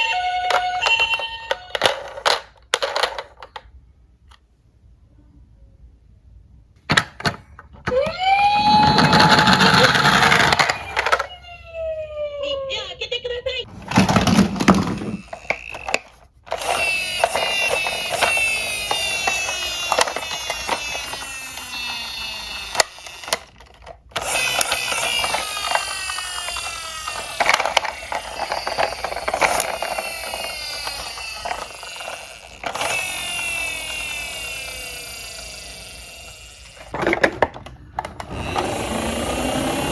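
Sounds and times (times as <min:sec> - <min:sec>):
toy car wheels whirring: 0:00.0 - 0:03.7, 0:07.9 - 0:11.4, 0:13.7 - 0:39.9
metal toys clicking and clattering: 0:00.0 - 0:03.8, 0:08.9 - 0:11.3, 0:13.8 - 0:39.9.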